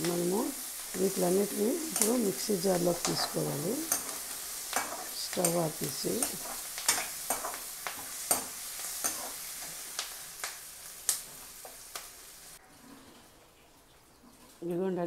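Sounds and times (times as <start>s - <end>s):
onions sizzling in oil: 0.0s - 12.7s.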